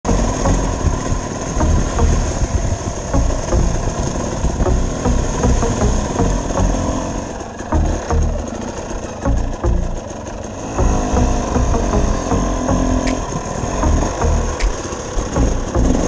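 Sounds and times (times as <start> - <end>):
off-road vehicle engine surging: 0.0 - 16.0.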